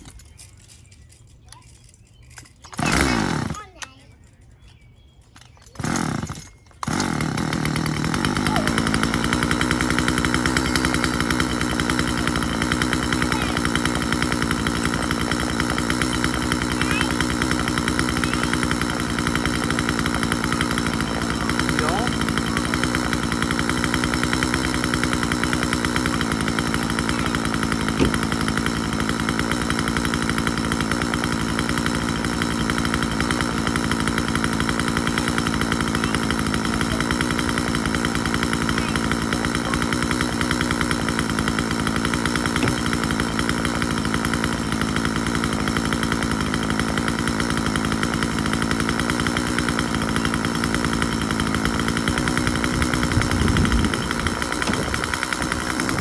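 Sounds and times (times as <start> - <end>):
chainsaw engine running: 2.2 - 4.3, 5.4 - 56.0.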